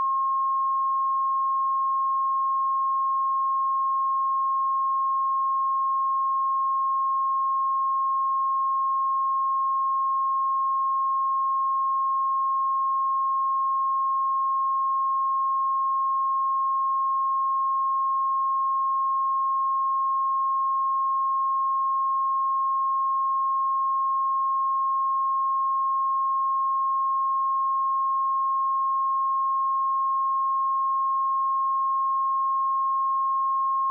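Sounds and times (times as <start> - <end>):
sine wave test tone: 0.0 - 33.9.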